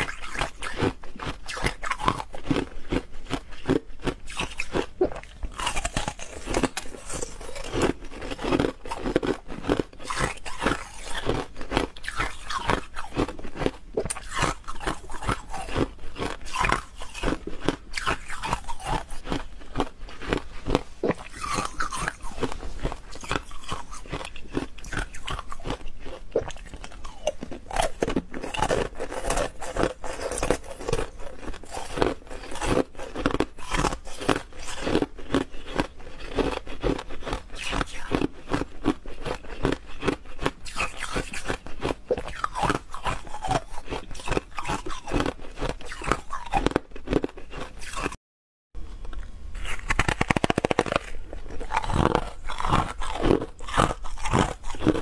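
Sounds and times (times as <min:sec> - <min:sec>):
teeth crunching ice: 0:00.0 - 0:48.2, 0:49.1 - 0:55.0.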